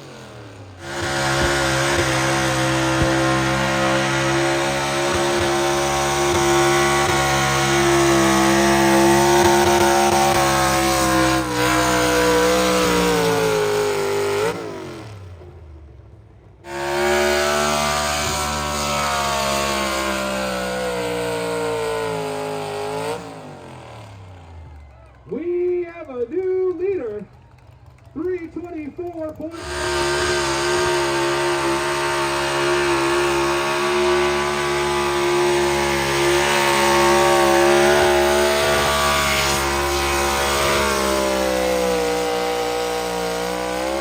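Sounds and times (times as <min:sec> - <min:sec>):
vehicle engine under heavy load: 0:00.0 - 0:44.0.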